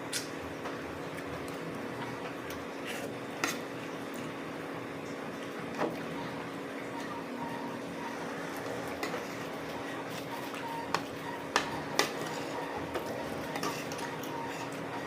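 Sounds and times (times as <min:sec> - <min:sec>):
faint hum: 0:00.1 - 0:15.0.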